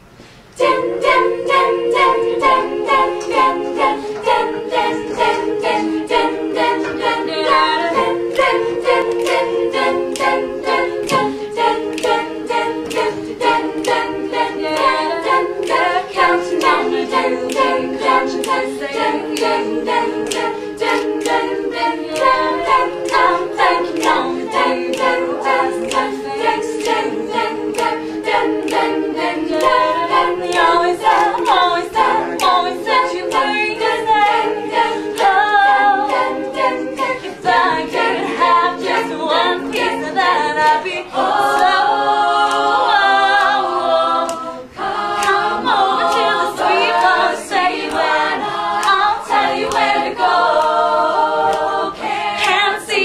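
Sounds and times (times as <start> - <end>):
women singing in close harmony: 0.0 - 53.0.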